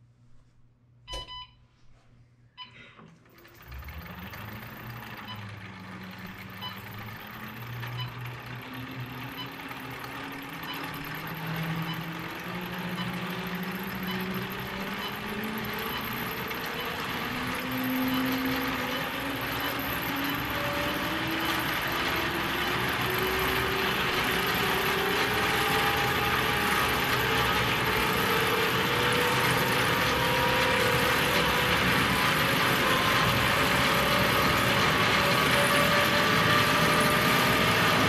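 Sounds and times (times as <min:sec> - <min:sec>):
jet engines spooling up: 0:03.4 - 0:38.0.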